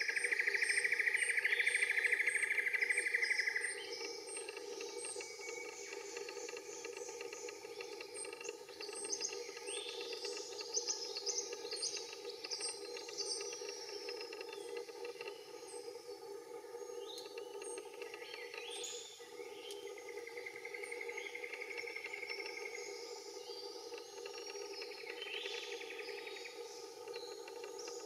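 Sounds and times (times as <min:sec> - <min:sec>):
small birds chirping and trilling: 0:00.0 - 0:16.2, 0:16.8 - 0:28.0.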